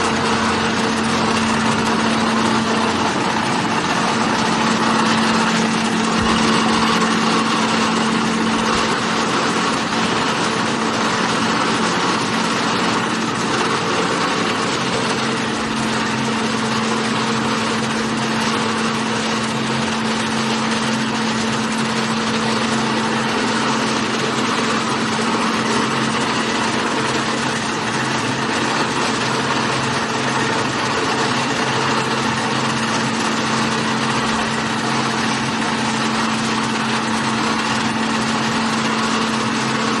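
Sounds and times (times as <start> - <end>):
production line machine drone: 0.0 - 40.0.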